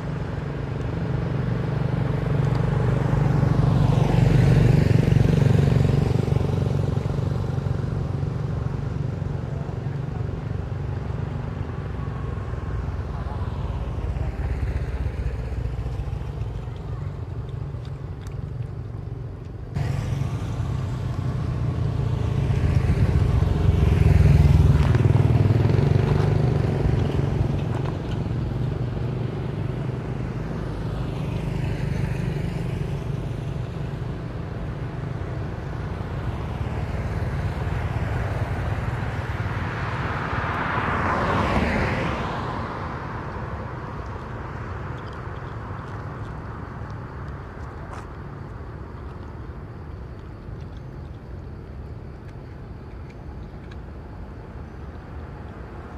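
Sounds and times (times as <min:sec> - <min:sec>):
cars and motorbikes passing: 0:00.0 - 0:55.9
low traffic rumble: 0:00.0 - 0:55.9.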